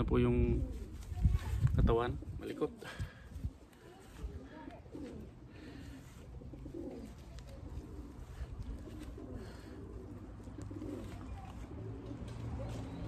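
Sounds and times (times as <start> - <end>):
pigeons cooing: 0.0 - 1.3, 2.0 - 13.0.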